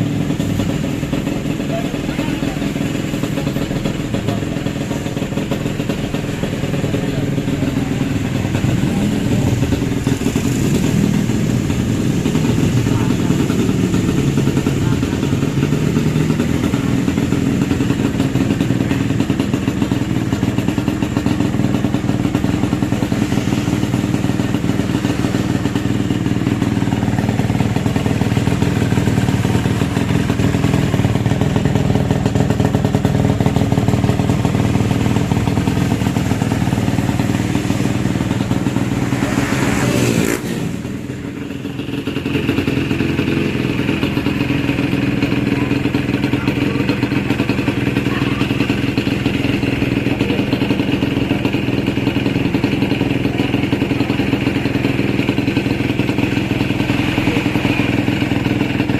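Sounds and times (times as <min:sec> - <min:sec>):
two-stroke engine running: 0:00.0 - 0:58.9.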